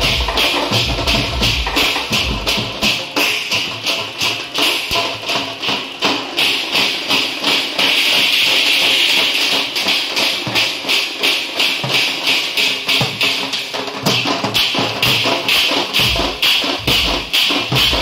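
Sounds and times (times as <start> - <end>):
steel drums beaten with sticks: 0.0 - 18.0.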